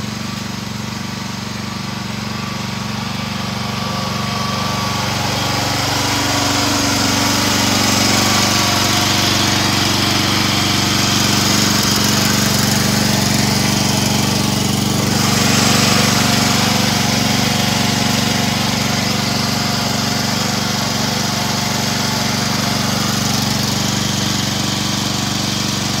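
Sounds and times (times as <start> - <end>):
small gasoline engine running: 0.0 - 26.0.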